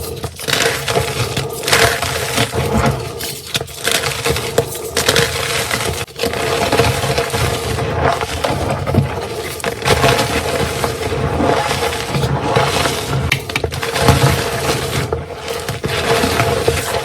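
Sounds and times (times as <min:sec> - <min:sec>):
chalk blocks crunching: 0:00.0 - 0:17.0.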